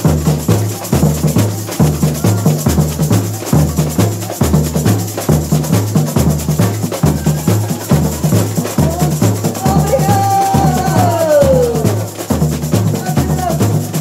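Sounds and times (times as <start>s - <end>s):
bass drums beating: 0.0s - 14.0s
fast high-pitched percussion: 0.0s - 14.0s.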